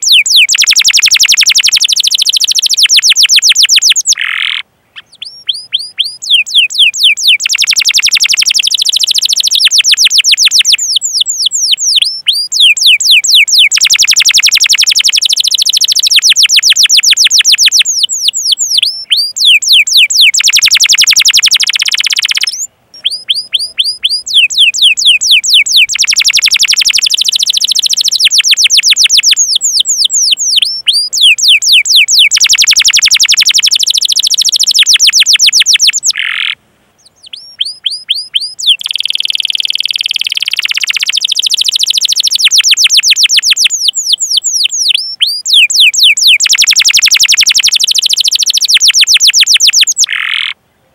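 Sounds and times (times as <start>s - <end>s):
canary singing trills: 0.0s - 50.6s.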